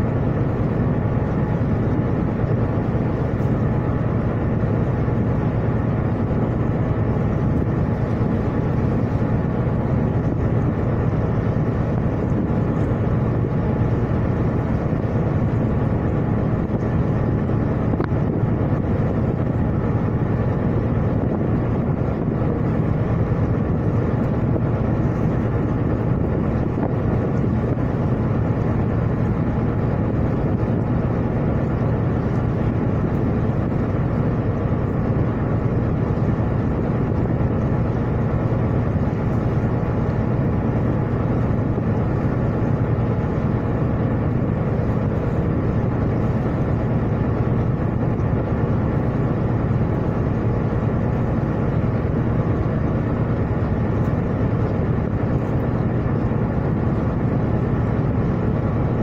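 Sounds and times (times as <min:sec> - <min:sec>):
ship engine droning: 0:00.0 - 0:59.0
wind and water rushing: 0:00.0 - 0:59.0.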